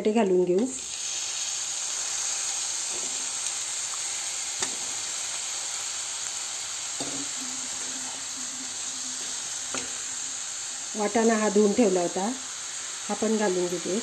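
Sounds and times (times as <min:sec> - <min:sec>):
potatoes sizzling in hot oil: 0:00.4 - 0:14.0.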